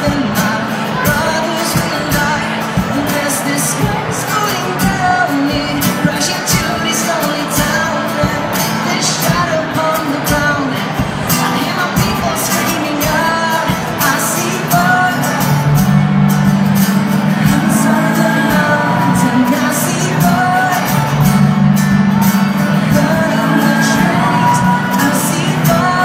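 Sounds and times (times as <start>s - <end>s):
acoustic guitar: 0.0s - 26.0s
man singing: 0.0s - 26.0s.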